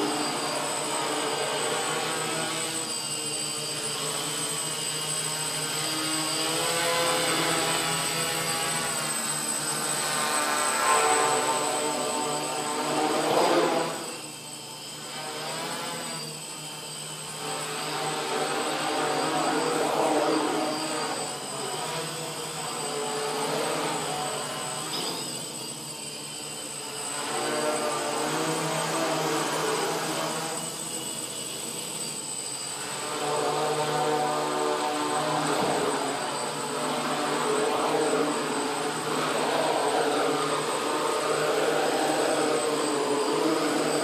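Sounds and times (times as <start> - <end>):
drone propellers buzzing: 0.0 - 44.0.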